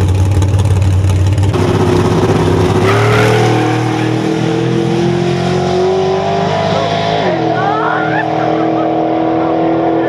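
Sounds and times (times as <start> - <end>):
drag racing car accelerating: 0.0 - 10.0.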